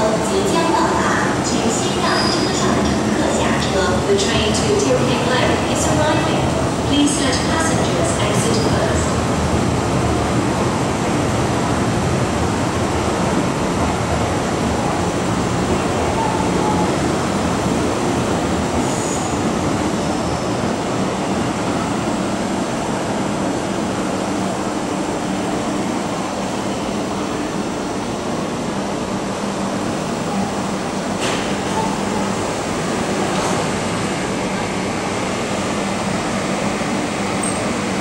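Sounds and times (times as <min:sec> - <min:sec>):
electric train rumbling: 0:00.0 - 0:38.0.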